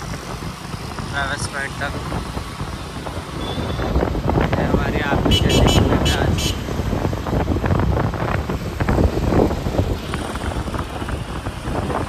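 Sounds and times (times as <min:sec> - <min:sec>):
road and traffic noise: 0:00.0 - 0:12.0
wind rushing over microphone: 0:00.0 - 0:12.0.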